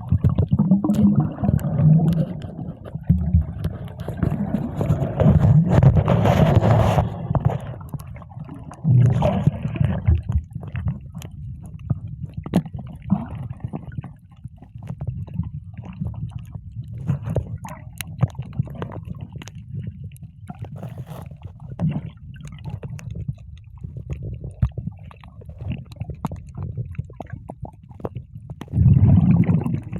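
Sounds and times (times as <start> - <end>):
water splashing and sloshing: 0.0 - 29.9.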